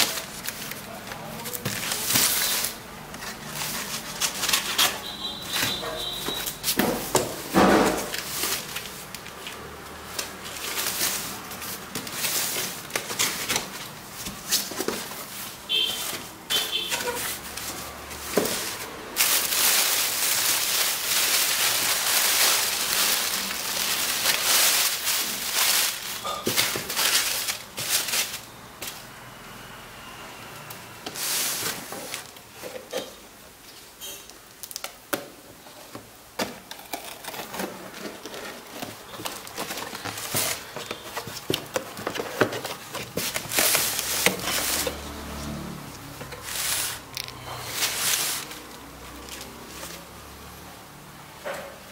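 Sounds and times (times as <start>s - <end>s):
plastic packing crinkling: 0.0s - 29.0s, 35.8s - 50.3s.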